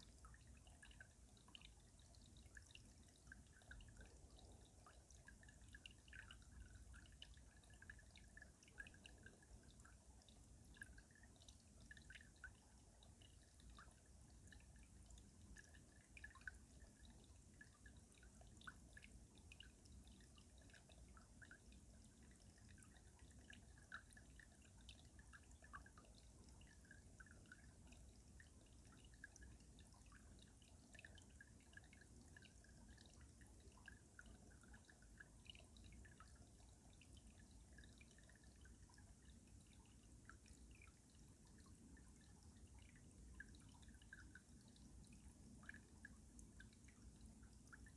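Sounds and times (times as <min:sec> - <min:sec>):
stream trickling under ice: 0:00.0 - 0:47.9.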